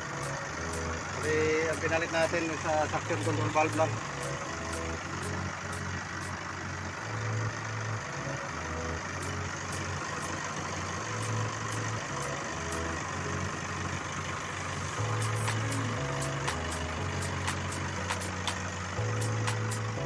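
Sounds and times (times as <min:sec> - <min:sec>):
diesel engine running: 0:00.0 - 0:20.0
light engine ticking: 0:00.0 - 0:20.0.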